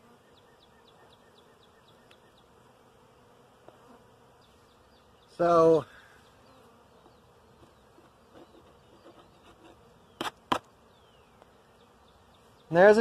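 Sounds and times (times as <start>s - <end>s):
bees buzzing faintly: 0.0s - 13.0s.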